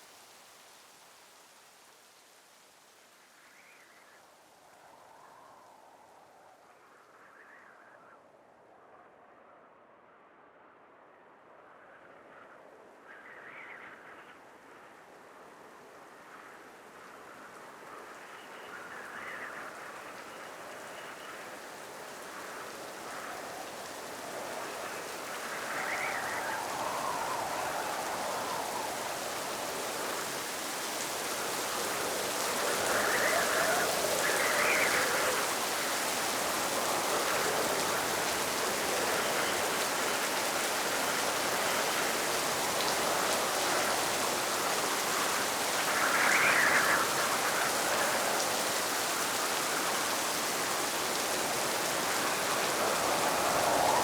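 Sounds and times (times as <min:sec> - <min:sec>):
steady rain falling: 0:00.0 - 0:07.8, 0:13.1 - 0:54.0.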